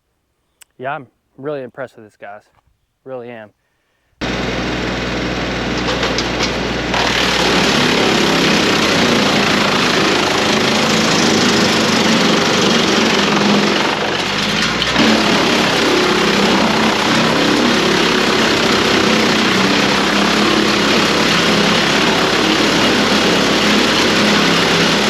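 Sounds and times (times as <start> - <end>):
tractor engine running: 4.2 - 25.0
wood chipper chipping branches: 4.2 - 25.0.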